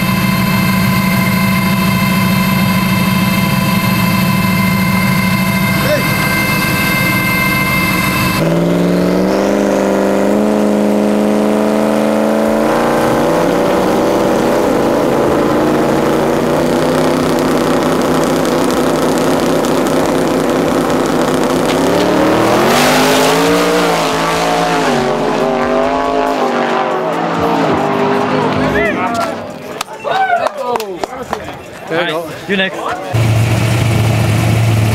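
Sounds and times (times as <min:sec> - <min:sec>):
truck engines revving hard: 0:00.0 - 0:29.8, 0:33.1 - 0:34.9.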